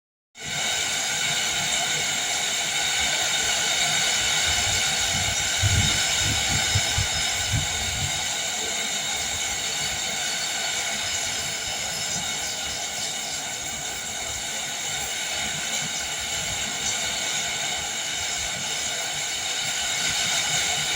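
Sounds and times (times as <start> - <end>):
heavy rain with wind: 0.4 - 20.9.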